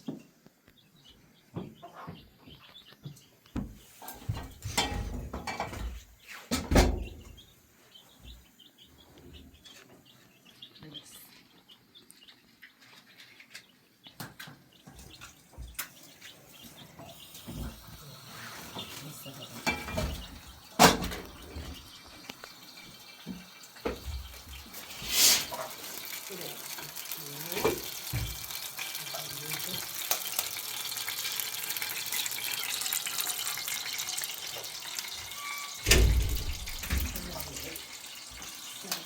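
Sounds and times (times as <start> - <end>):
small birds chirping: 0.0 - 33.8, 34.4 - 39.0.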